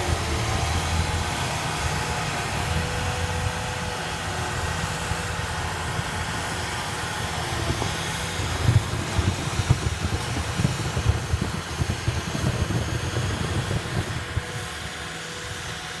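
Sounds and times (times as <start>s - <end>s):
diesel engine running under load: 0.0s - 16.0s
snowblower throwing snow: 0.0s - 16.0s.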